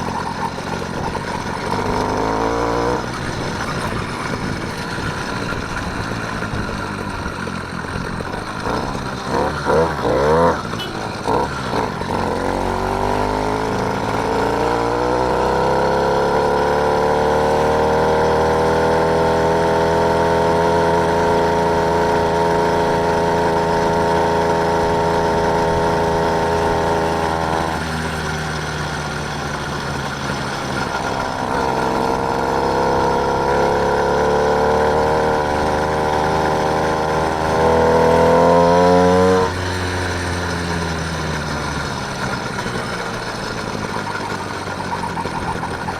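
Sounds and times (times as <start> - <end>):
motorised bike engine: 0.0 - 45.9.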